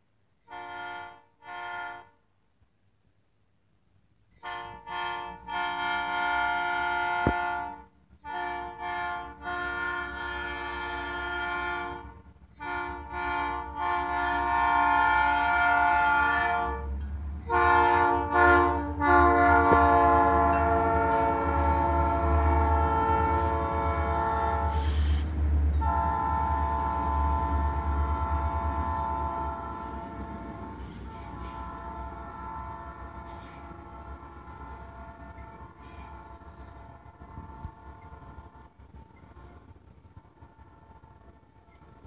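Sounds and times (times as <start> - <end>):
locomotive air horn blasts: 0.4 - 2.2, 4.4 - 42.0
train wheel noise: 4.4 - 42.0
locomotive engine rumble: 4.7 - 42.0.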